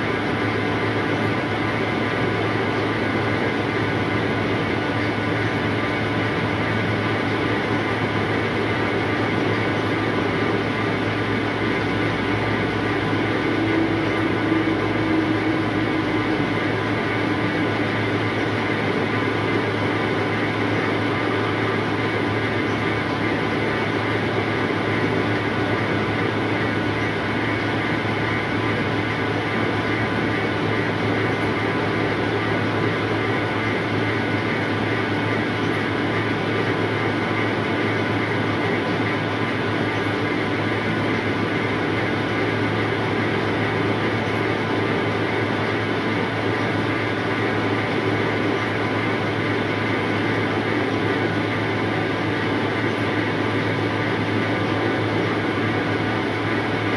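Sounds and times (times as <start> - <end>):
seed cleaning machine humming: 0.0 - 56.9.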